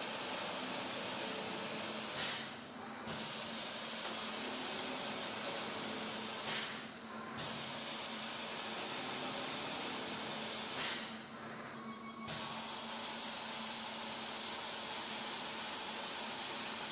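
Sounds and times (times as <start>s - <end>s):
slitting machine hiss and hum: 0.0s - 16.9s.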